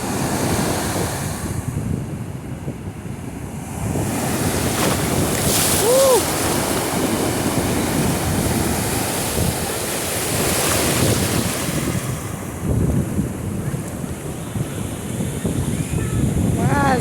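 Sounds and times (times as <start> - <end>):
ocean surf breaking: 0.0 - 1.7, 3.2 - 17.0
wind on microphone: 0.0 - 17.0.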